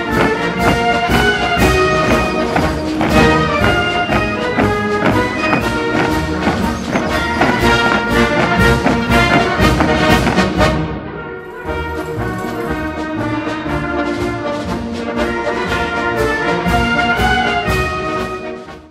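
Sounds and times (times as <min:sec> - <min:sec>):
brass band music: 0:00.0 - 0:18.9.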